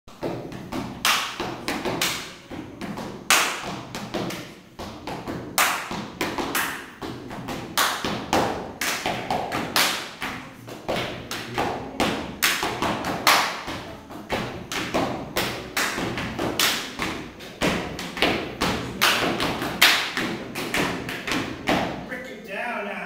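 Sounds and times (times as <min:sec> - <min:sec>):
hand claps and slaps: 0:00.1 - 0:22.0.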